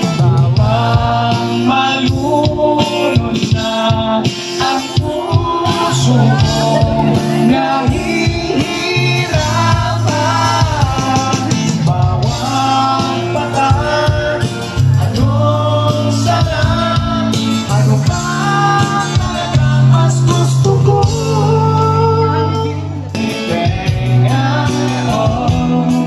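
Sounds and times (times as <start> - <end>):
acoustic guitar: 0.0 - 26.0
low bass line: 0.0 - 26.0
person singing: 0.0 - 26.0.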